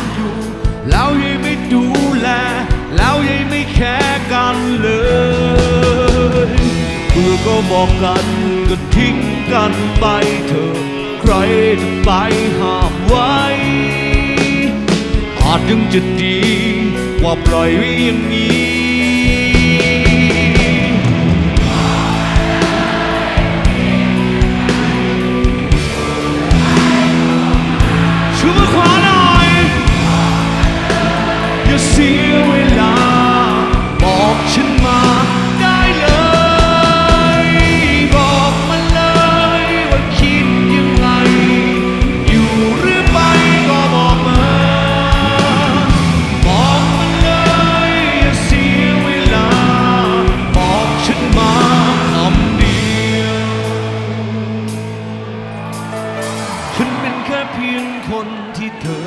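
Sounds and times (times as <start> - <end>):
man singing lead: 0.0 - 55.1, 56.3 - 59.0
live rock band playing: 0.0 - 59.0.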